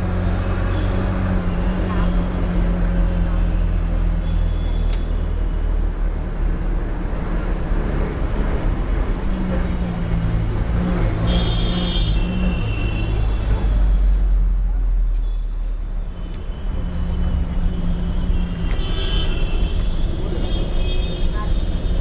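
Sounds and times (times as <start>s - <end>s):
bus engine drone: 0.0s - 22.0s
road and cabin noise: 0.0s - 22.0s.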